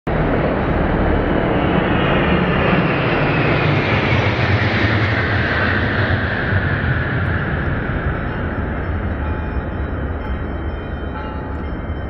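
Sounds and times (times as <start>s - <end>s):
jets flying low overhead: 0.1s - 10.7s.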